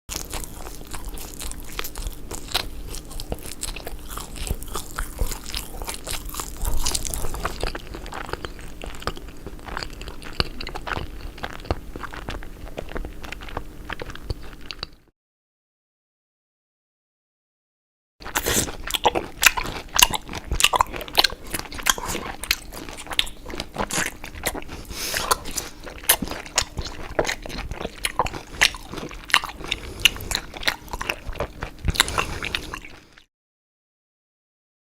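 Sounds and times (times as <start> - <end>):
person chewing crusty bread: 0.1 - 15.1, 18.2 - 33.3.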